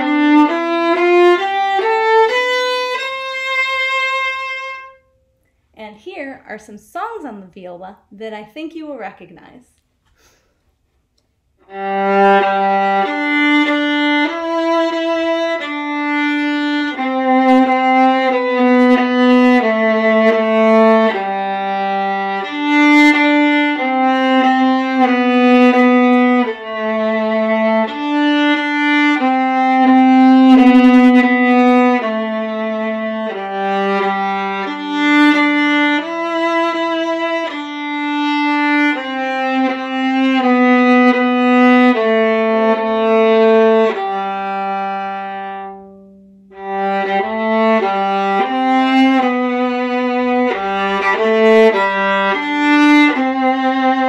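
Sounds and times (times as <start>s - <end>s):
solo viola melody: 0.0s - 5.4s, 11.6s - 54.0s.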